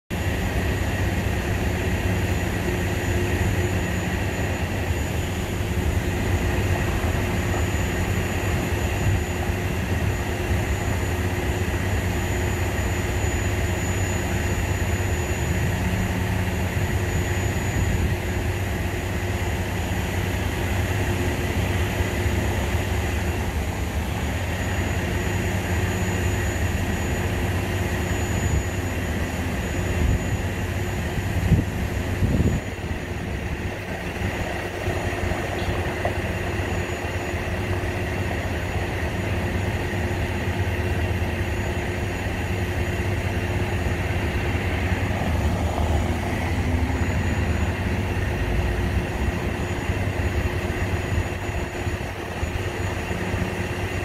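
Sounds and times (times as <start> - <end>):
faint high steady whine: 0.1 - 54.0
street traffic rumble: 0.1 - 54.0.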